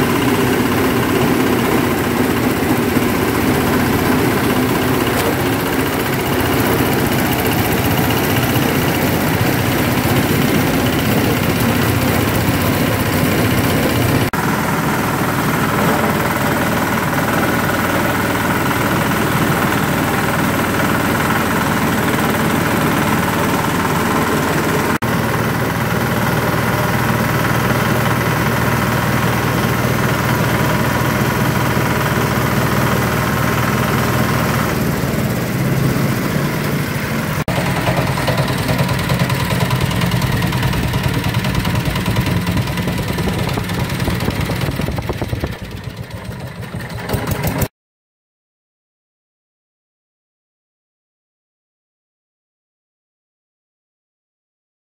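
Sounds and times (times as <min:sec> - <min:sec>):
chopper shredding leaves: 0:00.0 - 0:47.7
diesel engine running: 0:00.0 - 0:47.7.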